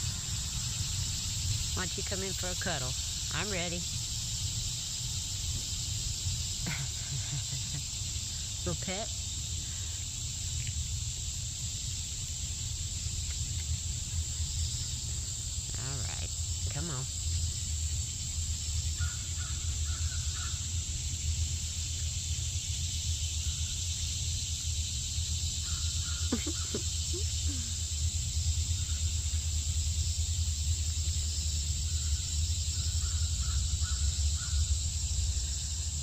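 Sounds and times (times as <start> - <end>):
cicadas droning: 0.0 - 36.0.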